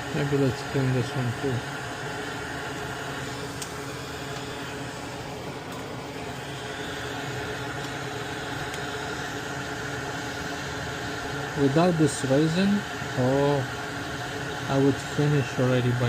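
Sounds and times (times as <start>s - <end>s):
small electric motor whirring: 0.5s - 16.0s.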